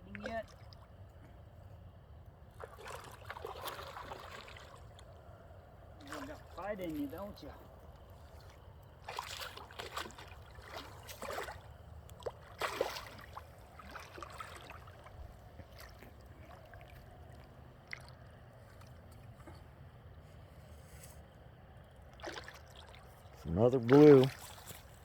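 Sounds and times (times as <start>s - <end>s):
water lapping: 0.0s - 20.4s, 21.8s - 25.0s
water sloshing and splashing: 0.0s - 25.0s.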